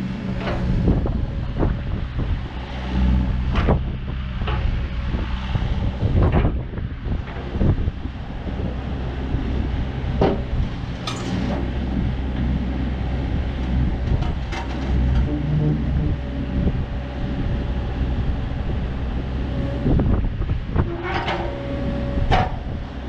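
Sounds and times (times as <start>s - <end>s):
excavator diesel engine running: 0.0s - 23.0s
hydraulics working: 0.0s - 23.0s.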